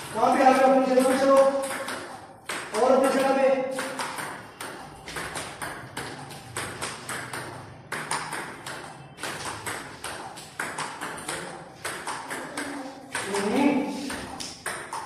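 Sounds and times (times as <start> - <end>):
table tennis balls clicking: 0.0 - 15.0.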